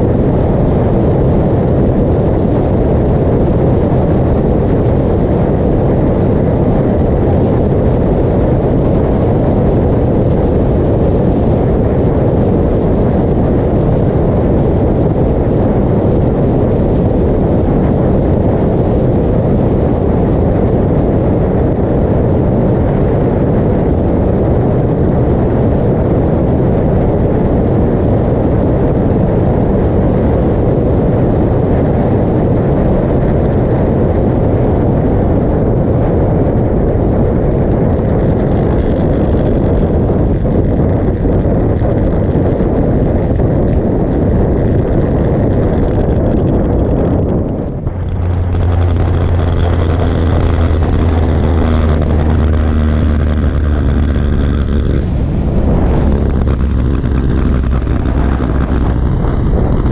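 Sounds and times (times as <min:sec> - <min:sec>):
motorcycle engine drone: 0:00.0 - 0:59.9
wind rushing over camera: 0:00.0 - 0:59.9.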